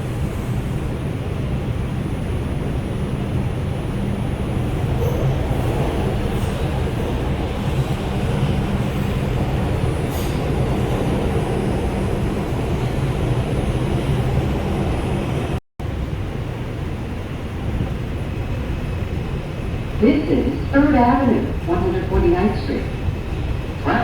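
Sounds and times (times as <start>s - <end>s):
subway car rumble: 0.0s - 24.0s.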